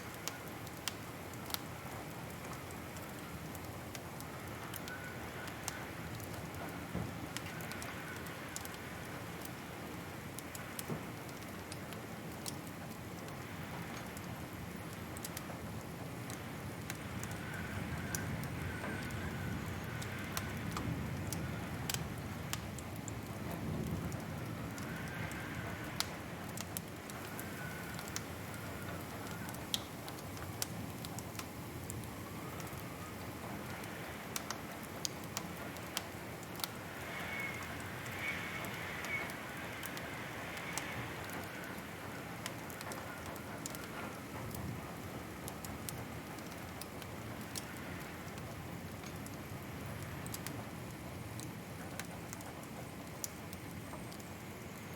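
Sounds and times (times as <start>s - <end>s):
logs crackling and popping: 0.0s - 54.9s.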